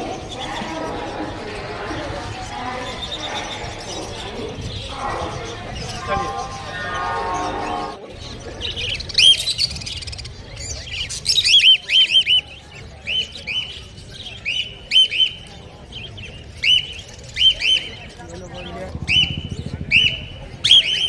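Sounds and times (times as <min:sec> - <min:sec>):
caged birds chirping: 0:00.0 - 0:21.0.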